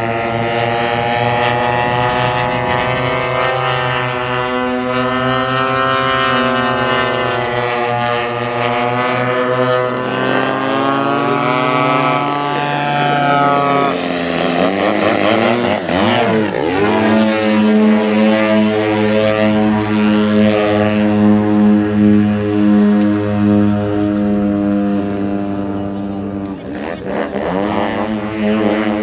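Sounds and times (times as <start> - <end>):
model plane engines droning: 0.0 - 29.0.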